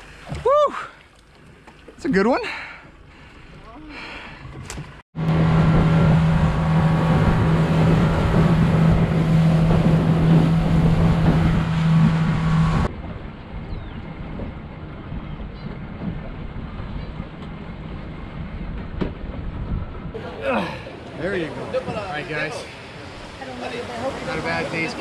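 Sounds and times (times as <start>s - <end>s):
outboard motor droning: 0.0s - 25.0s
rushing wind and water: 0.0s - 25.0s.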